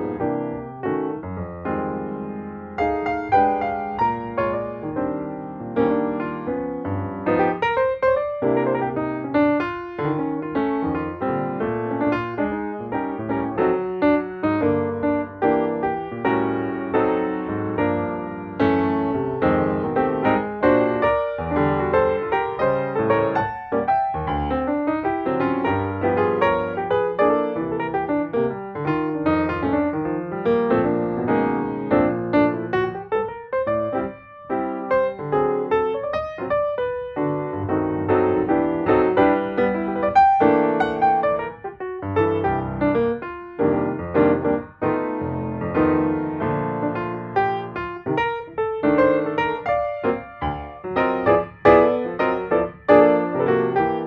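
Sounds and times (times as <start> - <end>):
instrumental piano music: 0.0 - 54.0.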